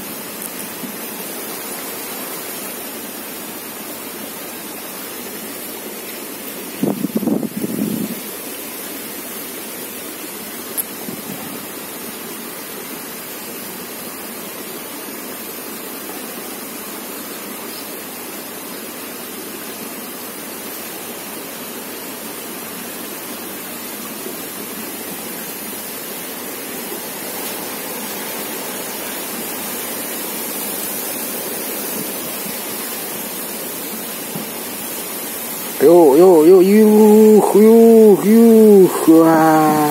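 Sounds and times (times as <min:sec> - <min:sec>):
outdoor ambience rushing hiss: 0:00.0 - 0:39.9.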